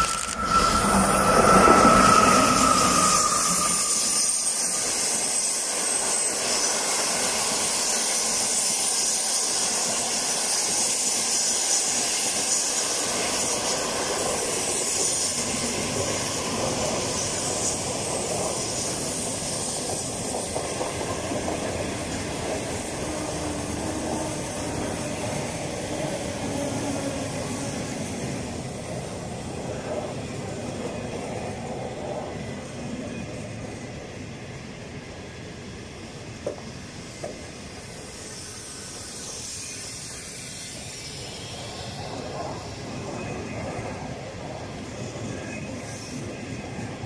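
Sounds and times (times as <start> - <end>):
high whine of train: 0.0 - 47.0
rushing hiss of train: 0.0 - 47.0
train coaches rolling past: 0.0 - 47.0.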